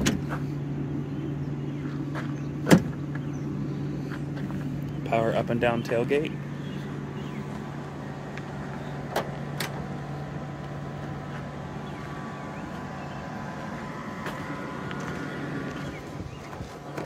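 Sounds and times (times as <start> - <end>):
outdoor background noise: 0.0 - 17.0
steady low hum: 0.0 - 17.0.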